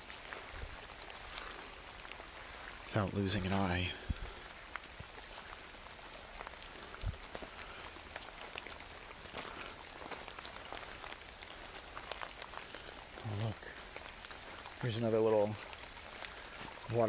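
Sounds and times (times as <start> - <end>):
rain drops ticking: 0.0 - 17.0.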